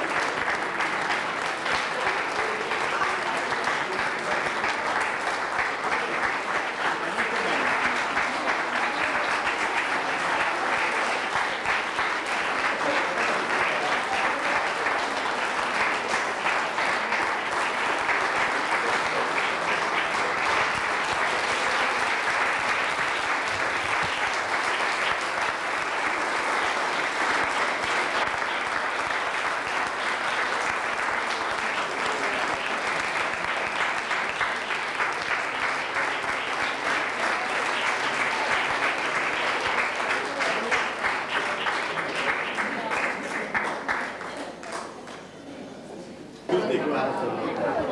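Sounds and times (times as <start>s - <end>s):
audience applauding: 0.0s - 45.5s.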